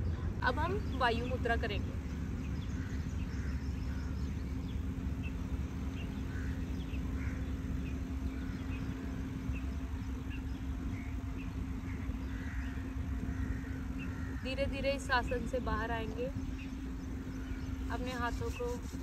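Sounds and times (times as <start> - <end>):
constant hum: 0.0 - 19.0.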